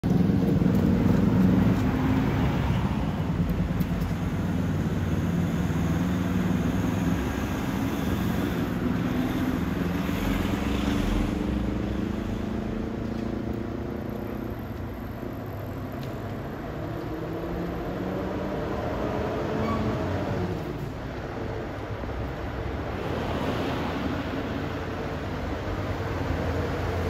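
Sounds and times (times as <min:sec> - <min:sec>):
convoy vehicle engines humming: 0:00.0 - 0:27.0.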